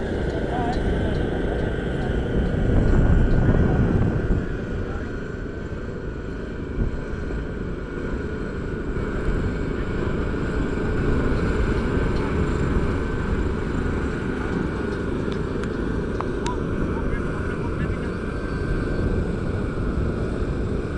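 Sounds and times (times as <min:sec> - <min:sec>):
heavy machinery low rumble: 0:00.0 - 0:20.9.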